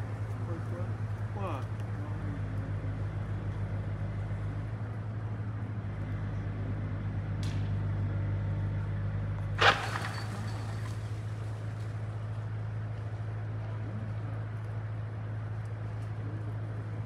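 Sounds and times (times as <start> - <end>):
heavy machinery engine droning: 0.0 - 17.0.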